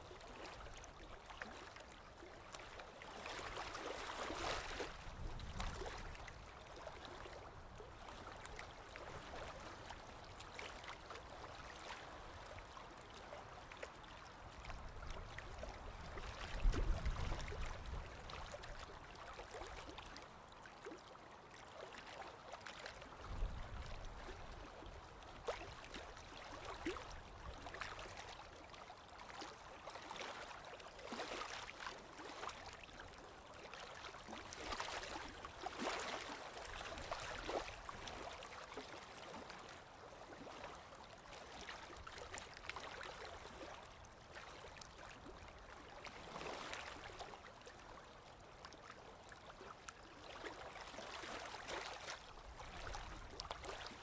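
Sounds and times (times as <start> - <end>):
stream water trickling and gurgling: 0.0 - 54.0.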